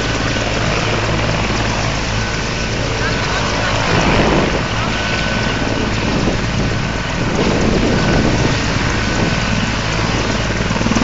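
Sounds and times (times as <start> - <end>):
helicopter engines and rotor: 0.0 - 11.0.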